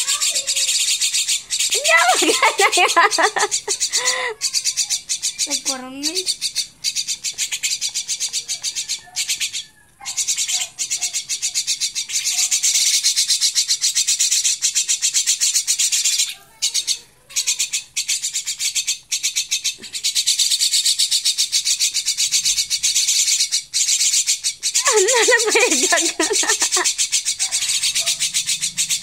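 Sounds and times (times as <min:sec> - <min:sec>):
fledgling birds begging calls: 0:00.0 - 0:29.0.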